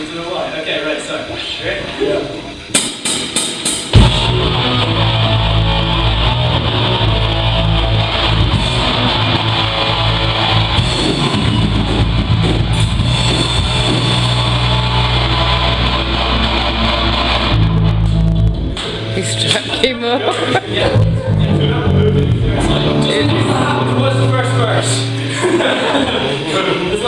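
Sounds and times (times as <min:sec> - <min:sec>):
rock band playing: 0:02.9 - 0:27.0
electric guitar: 0:03.9 - 0:27.0.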